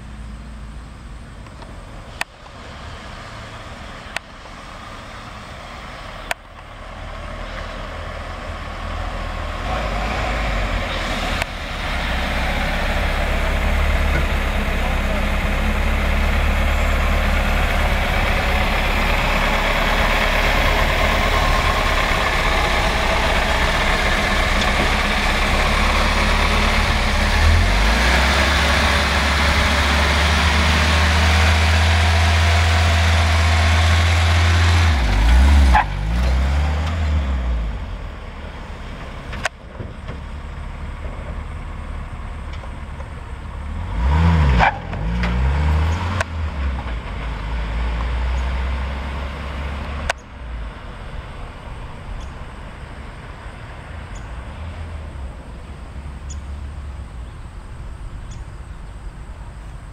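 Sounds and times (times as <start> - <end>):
pickup truck engine droning: 0.0 - 59.9
road and wind noise: 0.0 - 59.9.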